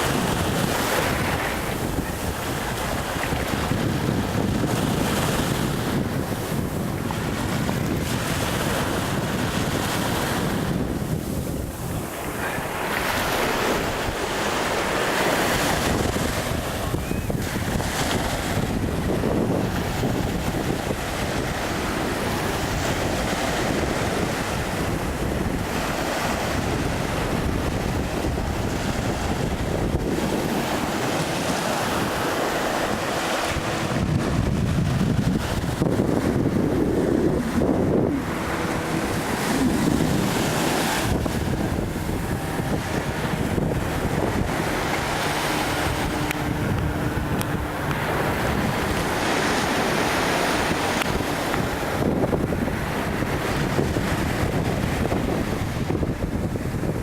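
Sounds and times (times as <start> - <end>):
waves breaking on shore: 0.0 - 57.0
wind buffeting microphone: 0.0 - 57.0.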